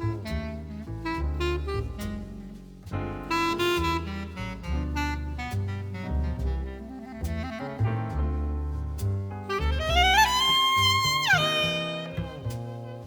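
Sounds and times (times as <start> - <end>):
alto saxophone melody: 0.0 - 8.7, 9.4 - 13.0
double bass: 0.0 - 13.0
piano: 0.0 - 13.0.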